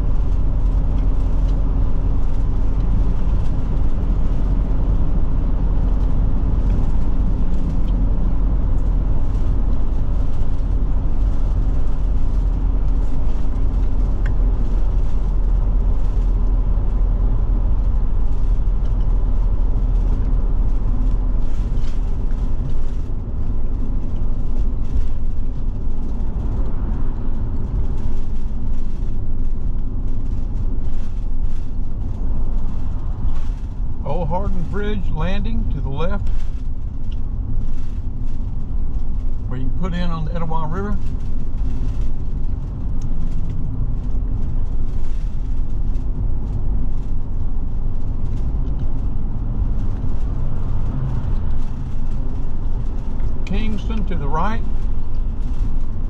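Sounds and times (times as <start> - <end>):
engine drone: 0.0 - 56.0
road and tyre noise: 0.0 - 56.0.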